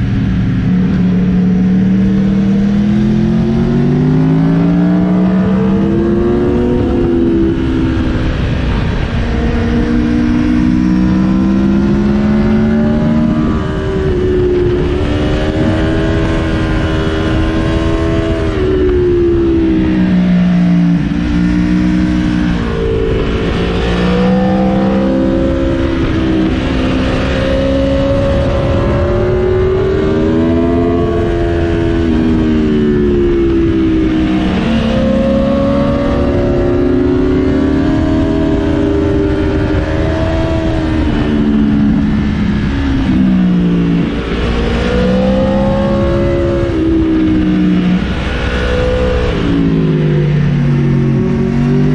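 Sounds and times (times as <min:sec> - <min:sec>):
motorcycle engine revving through gears: 0:00.0 - 0:51.9
wind noise: 0:00.0 - 0:51.9.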